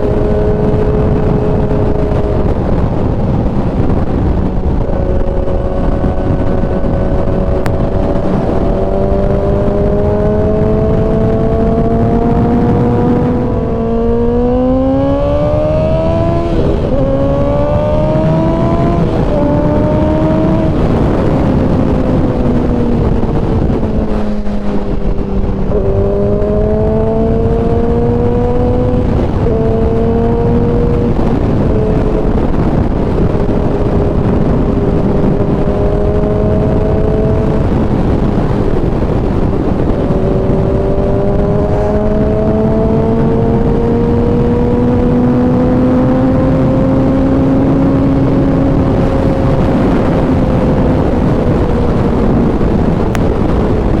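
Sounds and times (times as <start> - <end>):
motorcycle engine shifting gears: 0.0 - 54.0
wind rush: 0.0 - 54.0.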